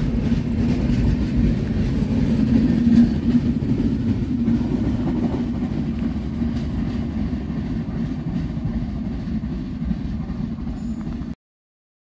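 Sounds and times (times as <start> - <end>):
train wheels rumbling on rail: 0.0 - 11.4.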